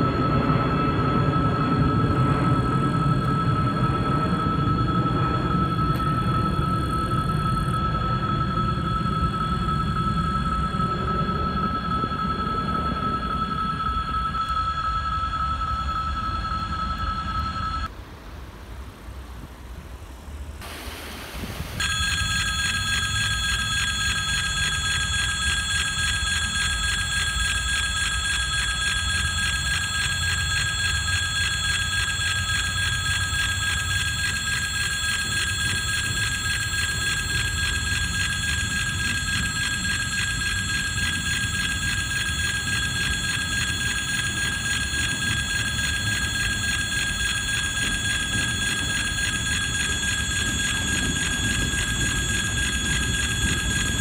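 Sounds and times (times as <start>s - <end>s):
electric warning bell ringing: 0.0s - 17.9s, 21.8s - 54.0s.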